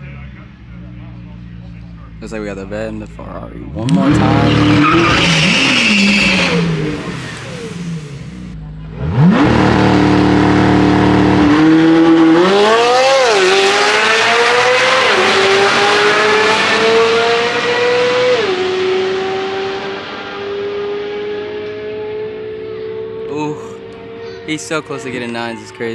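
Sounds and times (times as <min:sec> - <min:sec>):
car engine revving and accelerating: 0:03.6 - 0:24.7.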